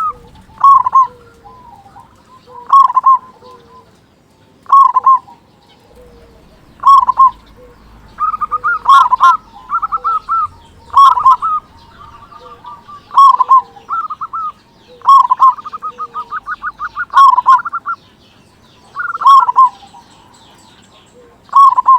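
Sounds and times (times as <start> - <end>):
dove cooing song: 0.0 - 21.9.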